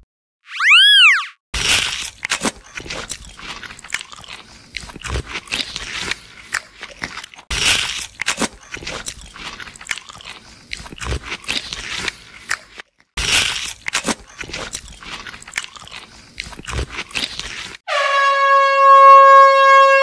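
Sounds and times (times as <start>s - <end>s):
cartoon crunchy chewing: 1.6s - 17.8s.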